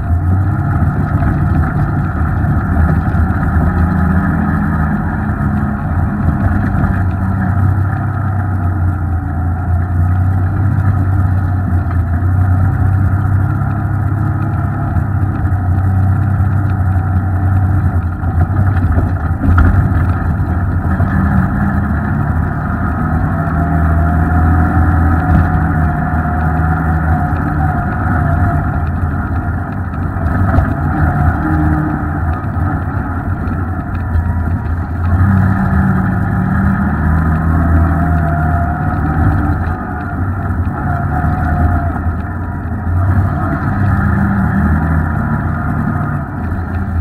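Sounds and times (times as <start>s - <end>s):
off-road vehicle engine droning: 0.0s - 47.0s.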